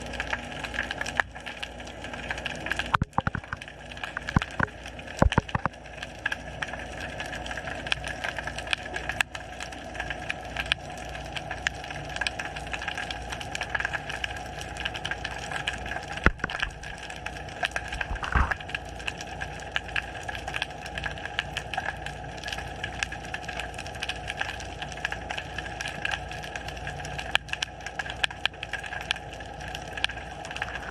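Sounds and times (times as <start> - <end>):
sharp clicks and crackles: 0.0 - 30.9
underwater wash of noise: 0.0 - 30.9.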